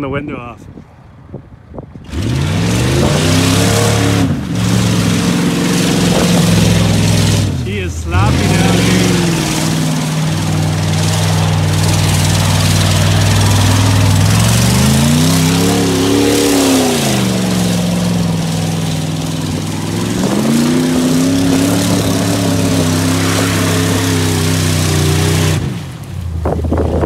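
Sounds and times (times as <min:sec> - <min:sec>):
loud truck exhaust revving: 0:02.0 - 0:27.0.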